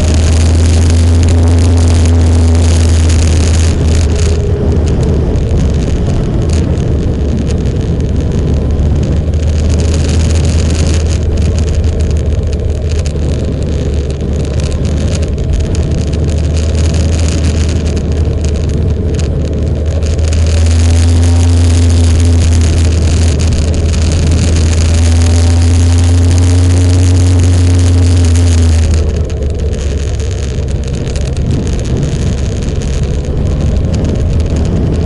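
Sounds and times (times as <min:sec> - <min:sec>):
motorcycle engine running: 0:00.0 - 0:35.0
wind noise on microphone: 0:00.0 - 0:35.0.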